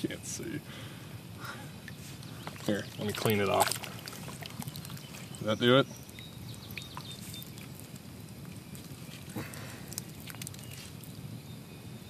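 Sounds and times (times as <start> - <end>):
low outdoor background: 0.0 - 12.0.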